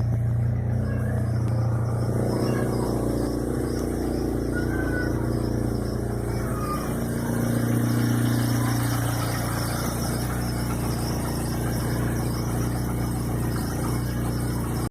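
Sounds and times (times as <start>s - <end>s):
car engine running: 0.0s - 14.9s
strange engine noise: 0.0s - 14.9s.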